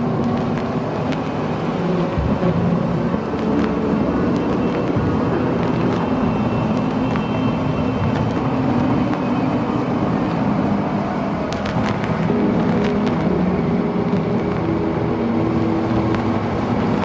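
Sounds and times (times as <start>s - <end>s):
dense rumbling noise: 0.0s - 17.0s.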